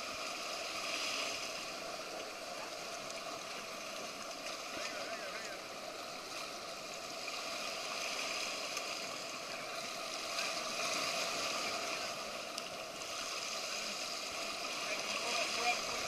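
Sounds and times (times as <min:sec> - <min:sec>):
water splashing around swimmers: 0:00.0 - 0:16.0.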